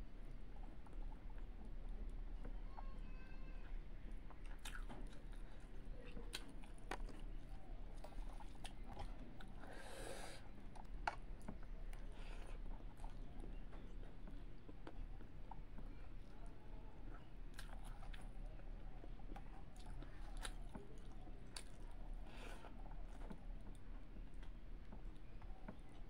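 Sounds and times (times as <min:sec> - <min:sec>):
wet clicks of fingers mixing rice: 0:03.7 - 0:09.8, 0:10.4 - 0:26.0
person chewing food: 0:04.1 - 0:26.0.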